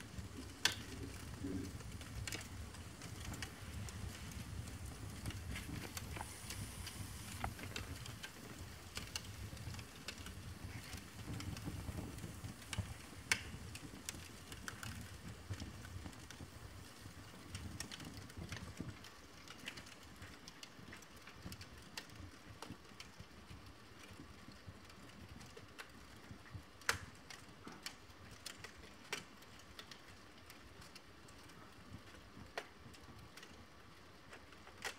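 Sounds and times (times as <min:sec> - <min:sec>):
fire crackling and popping: 0:00.0 - 0:34.9
low fire hiss: 0:00.0 - 0:34.9.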